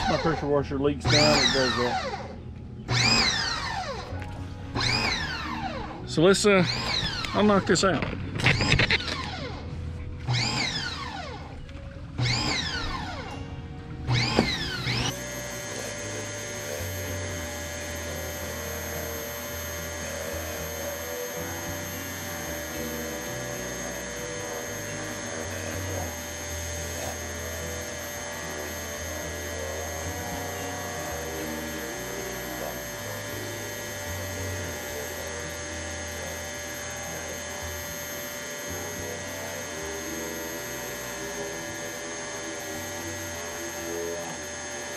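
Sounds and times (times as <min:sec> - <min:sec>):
pressure washer motor hum and whine: 0:00.0 - 0:44.9.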